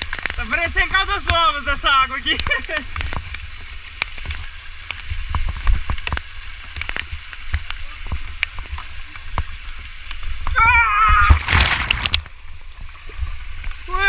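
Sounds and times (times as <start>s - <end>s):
crackling clicks: 0.0s - 10.6s, 11.2s - 13.8s.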